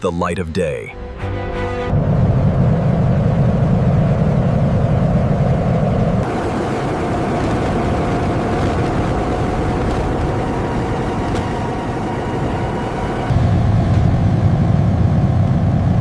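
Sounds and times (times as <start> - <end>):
engine rumbling: 0.0 - 16.0
deep hum: 0.9 - 16.0.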